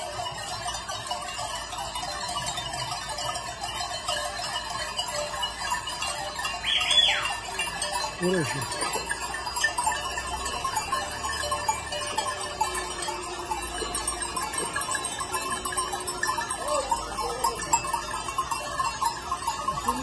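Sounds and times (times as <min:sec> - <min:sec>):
sheep bells clanking: 0:00.0 - 0:20.0.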